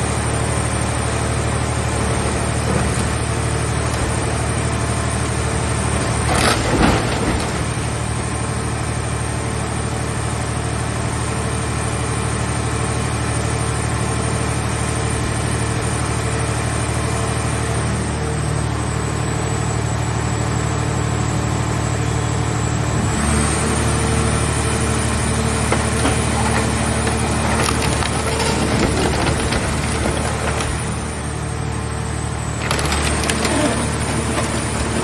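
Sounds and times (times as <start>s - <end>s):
scrap baler engine and hydraulics: 0.0s - 35.0s.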